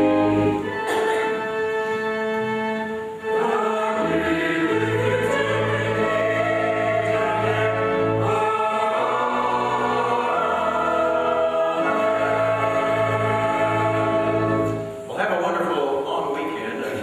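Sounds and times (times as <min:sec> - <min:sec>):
choir and congregation singing a hymn: 0:00.0 - 0:15.0
instrumental accompaniment: 0:00.0 - 0:17.0.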